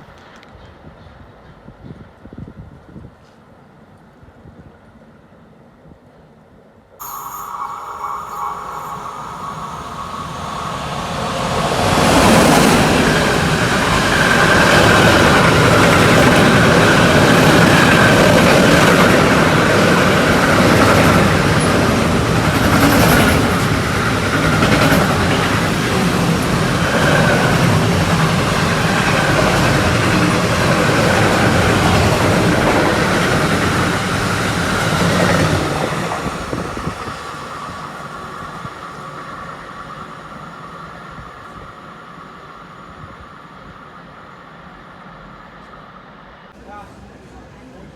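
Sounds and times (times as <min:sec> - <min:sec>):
freight train rumbling on rails: 0:07.0 - 0:47.9.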